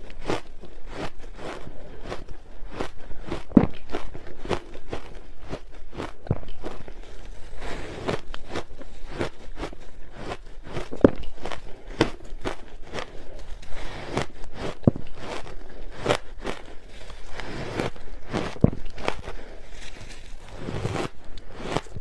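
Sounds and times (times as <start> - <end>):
crunching ice chewing: 0.0 - 22.0.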